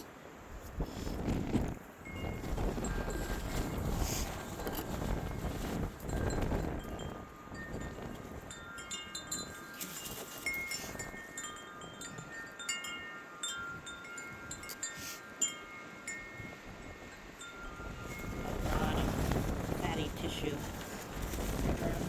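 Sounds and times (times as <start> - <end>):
low rush of wind: 0.0 - 22.0
wind chimes ringing: 2.0 - 20.6.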